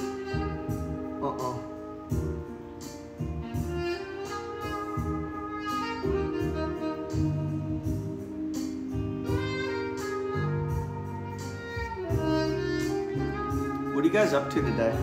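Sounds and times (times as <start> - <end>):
background music with bass line: 0.0 - 15.0.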